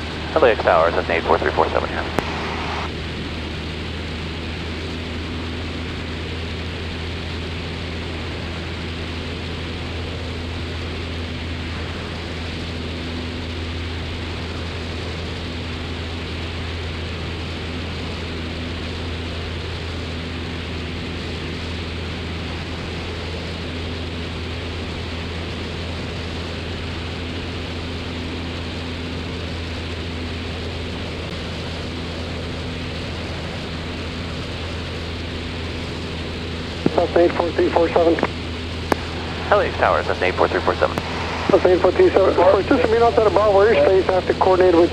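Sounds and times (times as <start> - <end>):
propeller aircraft engine drone: 0.0 - 44.9.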